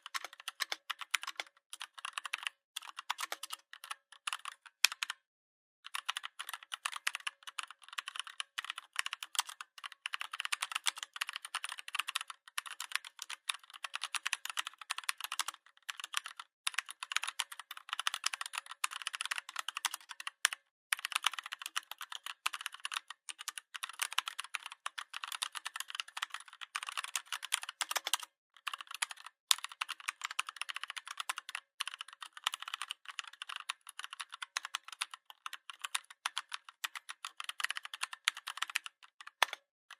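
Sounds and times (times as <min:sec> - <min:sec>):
fast mechanical keyboard typing: 0:00.0 - 0:05.2, 0:05.9 - 0:39.6.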